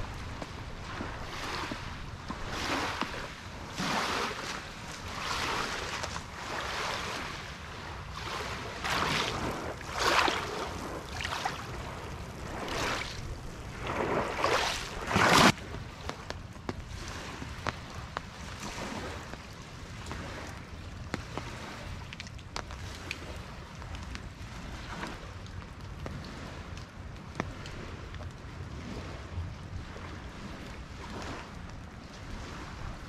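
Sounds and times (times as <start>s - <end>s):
waves washing over pebbles: 0.0s - 33.0s.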